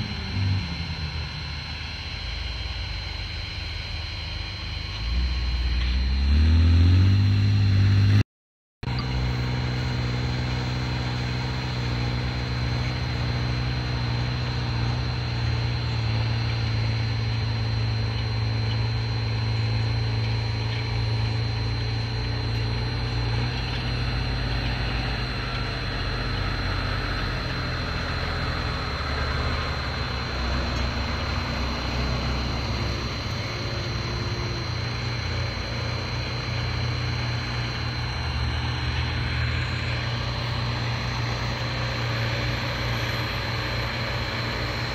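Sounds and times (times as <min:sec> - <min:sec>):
tractor diesel engine running: 0:00.0 - 0:08.2, 0:08.8 - 0:44.9.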